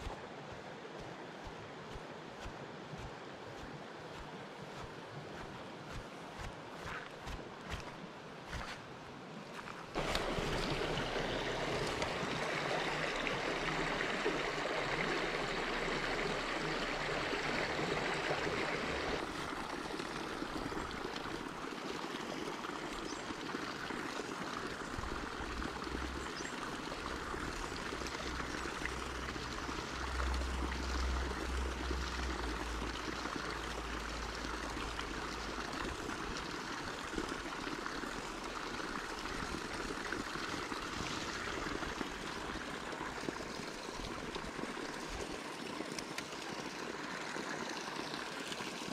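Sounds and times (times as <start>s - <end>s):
stream running over rocks: 0.0s - 48.9s.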